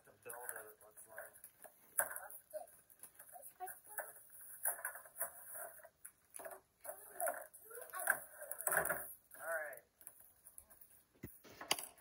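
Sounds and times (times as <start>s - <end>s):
plastic pieces knocking: 0.2s - 12.0s.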